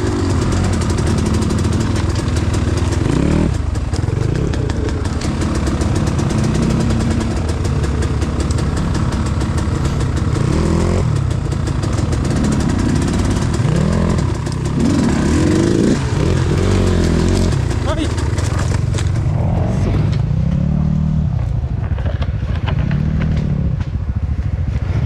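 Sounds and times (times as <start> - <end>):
dirt bike engine revving: 0.0 - 21.4.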